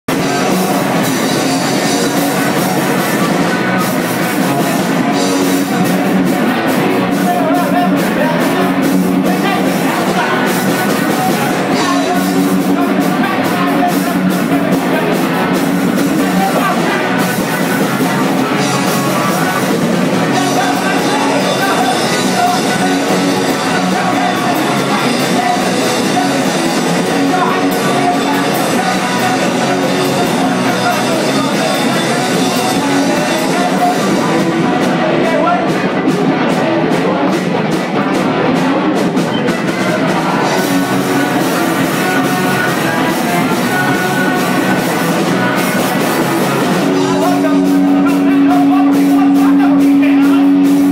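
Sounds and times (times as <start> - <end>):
drum kit: 0.0 - 50.9
electric guitars: 0.0 - 50.9
person singing lead vocal: 0.1 - 50.9.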